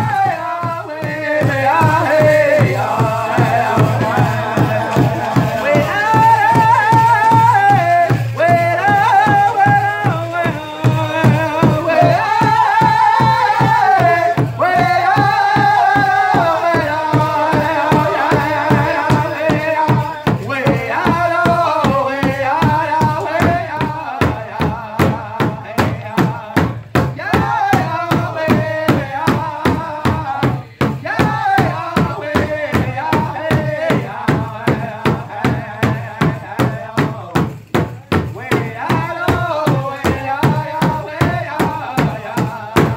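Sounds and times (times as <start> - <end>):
group singing chant-like song: 0.0 - 42.9
large drum steady beat: 0.0 - 42.9.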